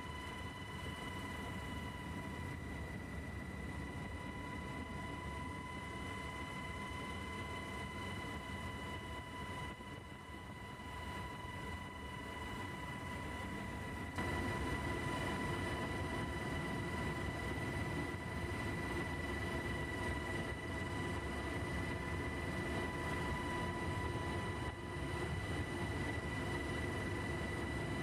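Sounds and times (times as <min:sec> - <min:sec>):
helicopter engine and rotor drone: 0:00.0 - 0:28.0
high steady whine: 0:00.0 - 0:28.0.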